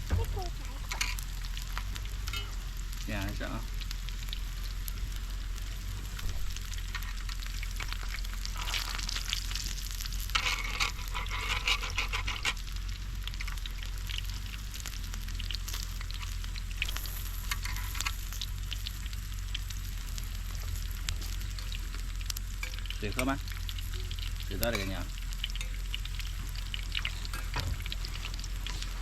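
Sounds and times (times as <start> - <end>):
pork sizzling in a hot pan: 0.0 - 29.0.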